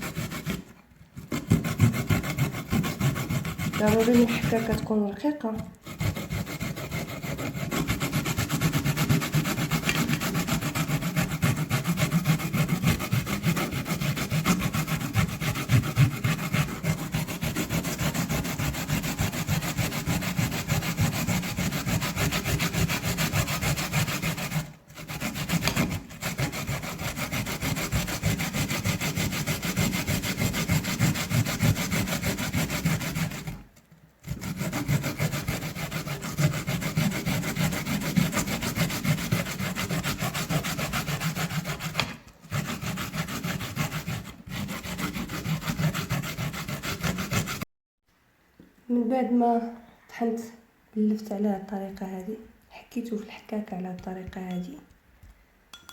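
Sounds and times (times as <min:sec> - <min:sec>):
turnip grated on grater: 0:00.0 - 0:47.6.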